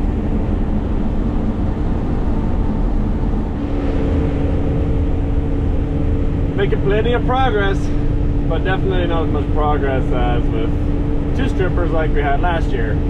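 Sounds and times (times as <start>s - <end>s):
harvester machinery drone: 0.0s - 13.0s
steady hum tones: 0.0s - 13.0s.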